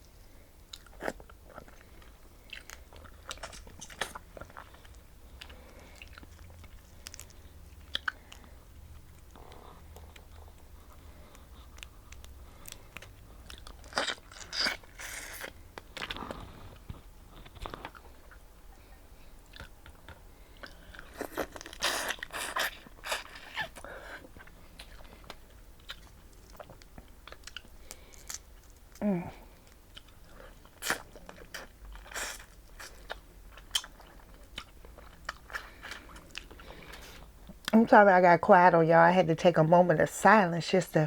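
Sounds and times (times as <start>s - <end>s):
crunching and chewing: 0.0s - 37.8s.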